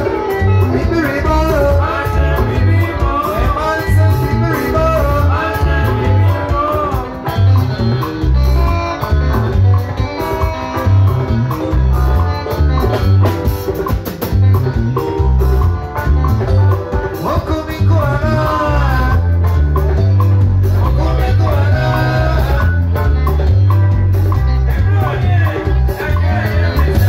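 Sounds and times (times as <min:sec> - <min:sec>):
drum kit beat: 0:00.0 - 0:27.0
electric guitar: 0:00.0 - 0:27.0.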